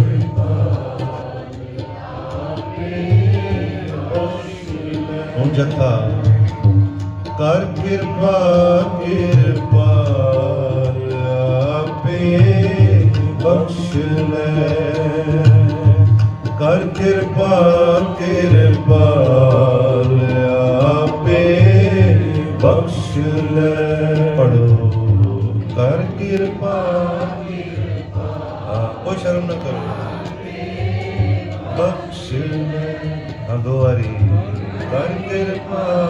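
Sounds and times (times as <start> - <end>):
man singing devotional hymn: 0.0 - 1.5, 2.3 - 6.4, 7.4 - 16.0, 16.6 - 30.8, 31.6 - 36.0
harmonium chords: 0.0 - 36.0
tabla: 0.0 - 36.0.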